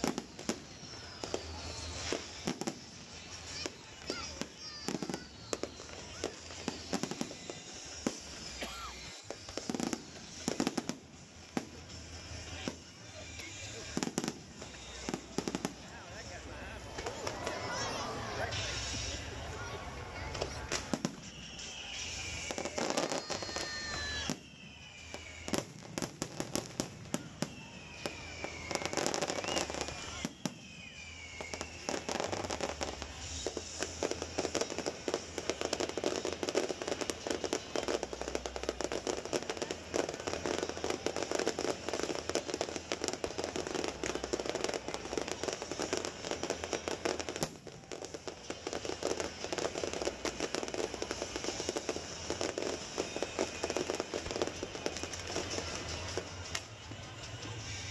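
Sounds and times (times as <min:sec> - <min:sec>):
falling firework whistles: 0:00.0 - 0:57.9
fireworks bangs and crackling: 0:00.0 - 0:57.9.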